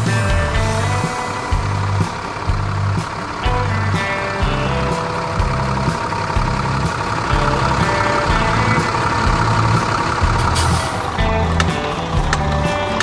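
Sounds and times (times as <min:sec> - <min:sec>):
cartoon tractor engine: 0:00.0 - 0:13.0
light music with bouncing bass: 0:00.0 - 0:13.0.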